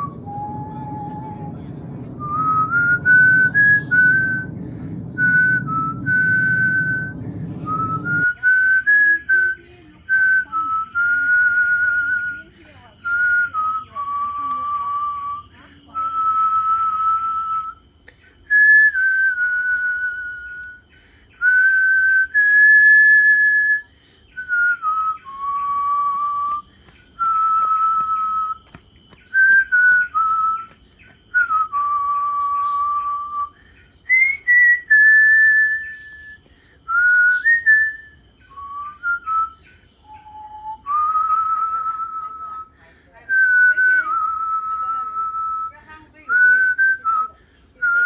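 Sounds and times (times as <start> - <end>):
person whistling a slow tune: 0.0 - 48.0.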